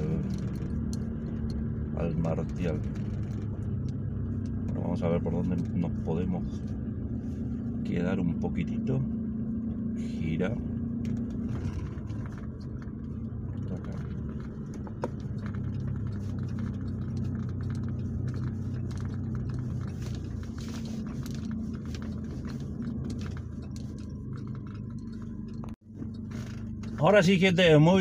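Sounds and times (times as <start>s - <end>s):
truck engine running at low speed: 0.0s - 28.0s.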